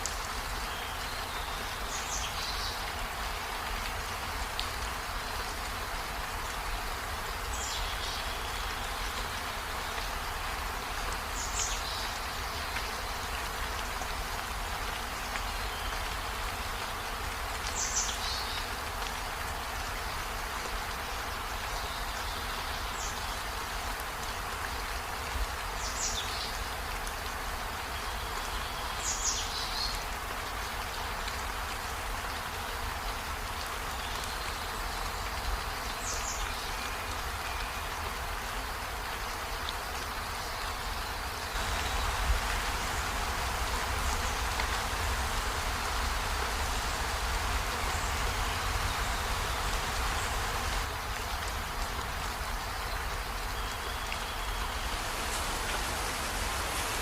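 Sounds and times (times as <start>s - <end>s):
rain falling on trees: 0.0s - 57.0s.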